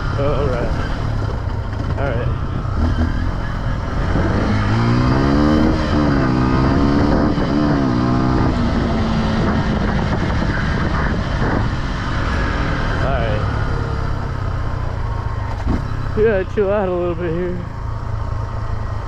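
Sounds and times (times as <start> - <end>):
wind rumbling on microphone: 0.0 - 16.4
off-road vehicle engine revving: 0.0 - 19.0.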